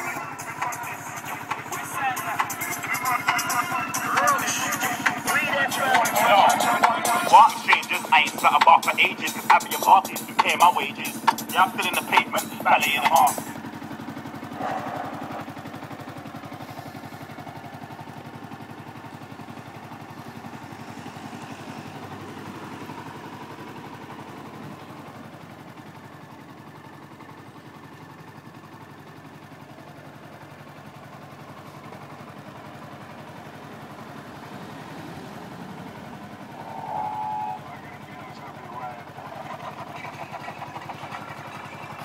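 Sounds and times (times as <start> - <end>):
motorcycle engine idling: 0.0 - 42.0.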